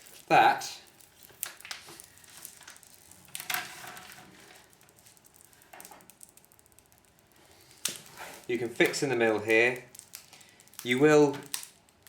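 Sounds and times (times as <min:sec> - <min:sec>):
plastic sheet rustling: 0:00.0 - 0:12.0.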